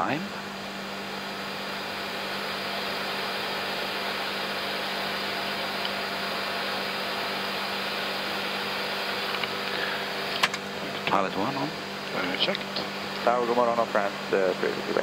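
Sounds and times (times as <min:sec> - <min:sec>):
airflow and jet engine noise: 0:00.0 - 0:15.0
constant low hum: 0:00.0 - 0:15.0.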